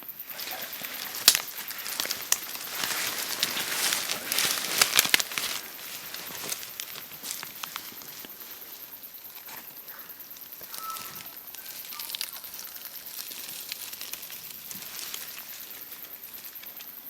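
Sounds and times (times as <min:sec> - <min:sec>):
steady hiss: 0:00.0 - 0:17.0
rustling and scuffling: 0:00.1 - 0:16.9.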